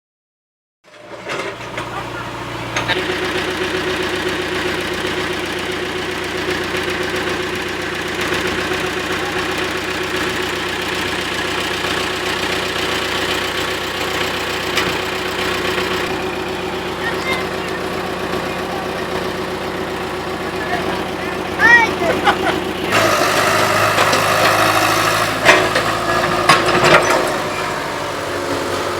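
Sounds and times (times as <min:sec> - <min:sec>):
excavator diesel engine running: 0:00.9 - 0:28.9.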